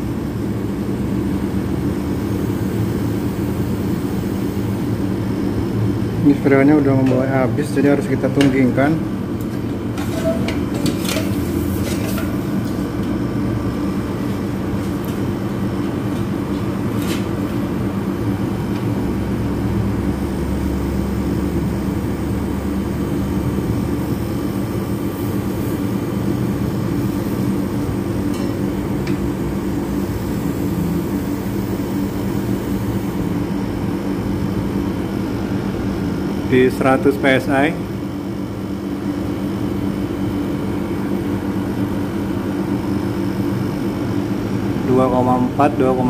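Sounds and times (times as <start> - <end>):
air conditioner compressor hum: 0.0 - 46.0.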